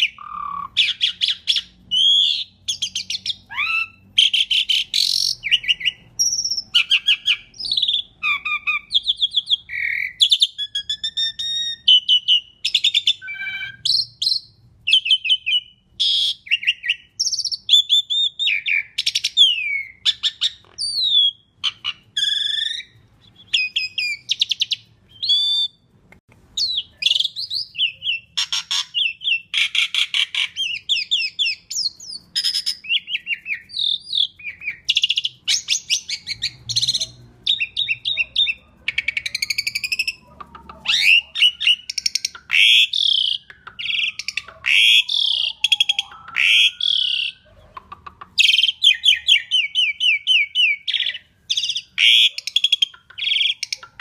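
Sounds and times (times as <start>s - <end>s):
starling singing: 0.0s - 25.9s, 26.6s - 54.0s.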